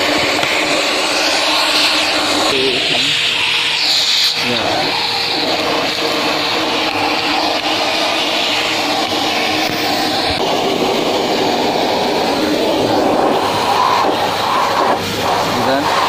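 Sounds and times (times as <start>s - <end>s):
nozzle sucking over fabric seat: 0.0s - 16.0s
vacuum cleaner running: 0.0s - 16.0s
steady tone: 0.6s - 16.0s.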